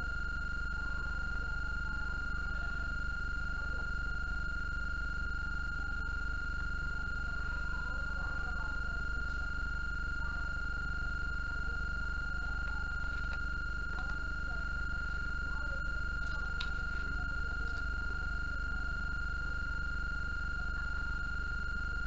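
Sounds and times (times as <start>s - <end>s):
high-pitched electronic whine: 0.0s - 22.0s
low hum: 0.0s - 22.0s.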